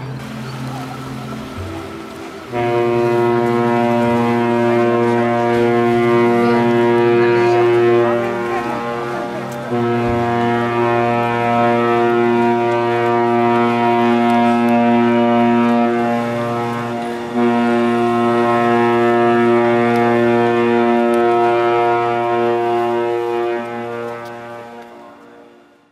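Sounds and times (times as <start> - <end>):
ship's horn blasting: 0.0 - 25.9.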